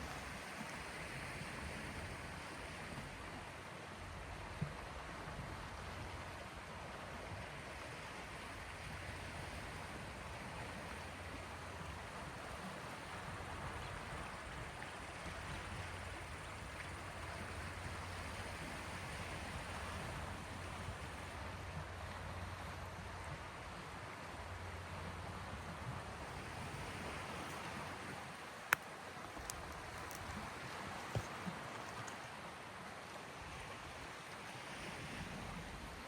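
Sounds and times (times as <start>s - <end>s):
small waves washing on shore: 0.0s - 36.0s.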